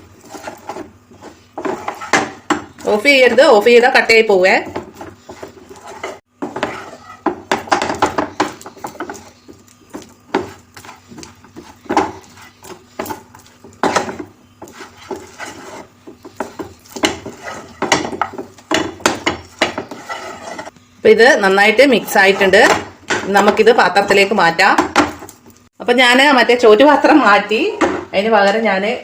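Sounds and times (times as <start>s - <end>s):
spoon scraping a pan: 0.0s - 20.8s, 21.6s - 24.4s.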